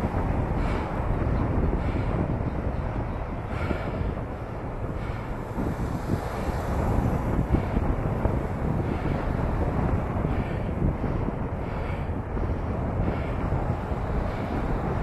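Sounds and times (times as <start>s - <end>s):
street traffic: 0.0s - 15.0s
wind buffeting microphone: 0.0s - 15.0s.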